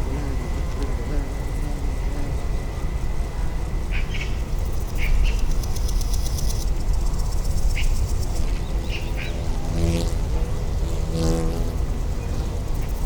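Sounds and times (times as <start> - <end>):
fine high buzz: 0.0 - 7.0, 7.6 - 13.0.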